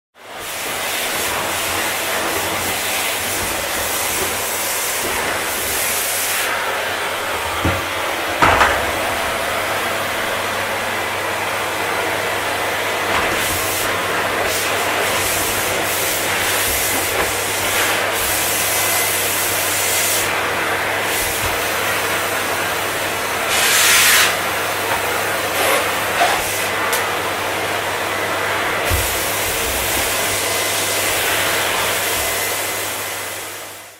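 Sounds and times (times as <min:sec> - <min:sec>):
vacuum cleaner running: 0:00.2 - 0:33.9.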